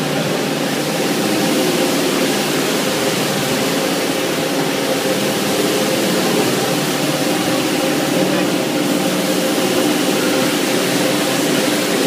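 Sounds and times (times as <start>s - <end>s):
carpet washing machine drone: 0.0s - 12.0s
water and scrubbing hiss: 0.0s - 12.0s.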